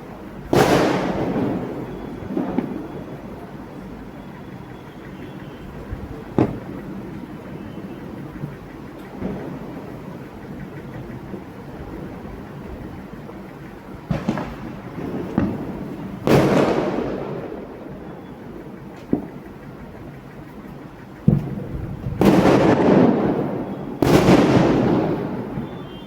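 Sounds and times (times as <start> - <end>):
fireworks bangs with echo: 0.0 - 26.0.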